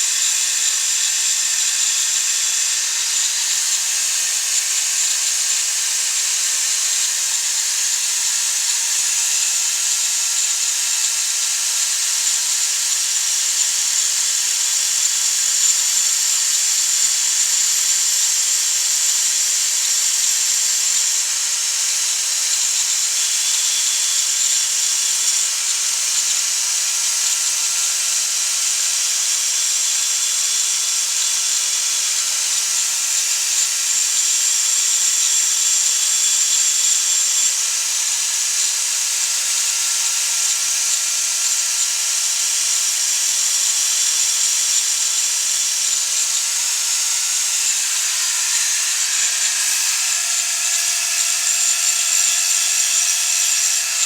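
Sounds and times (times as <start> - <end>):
power tool hissing and whining: 0.0 - 54.0.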